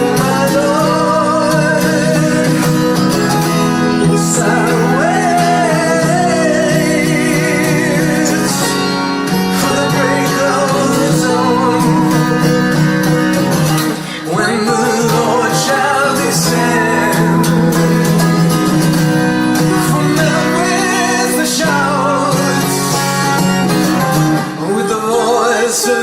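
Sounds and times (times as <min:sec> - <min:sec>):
guitar accompaniment: 0:00.0 - 0:26.0
person singing with vibrato: 0:00.0 - 0:26.0.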